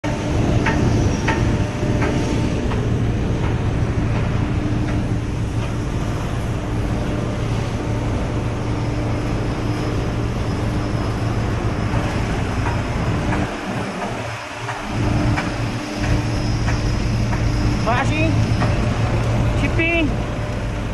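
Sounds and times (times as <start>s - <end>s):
heavy machinery humming: 0.0s - 20.9s.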